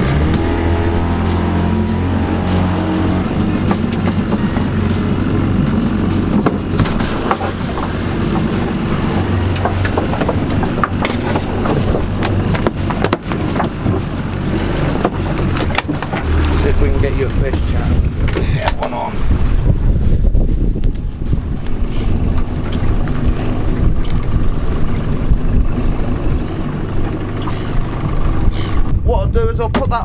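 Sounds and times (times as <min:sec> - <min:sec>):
outboard motor droning: 0:00.0 - 0:29.1.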